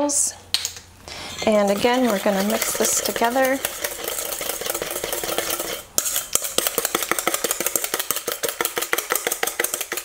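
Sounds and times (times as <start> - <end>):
whisk clicking in a metal bowl: 1.3 - 10.0.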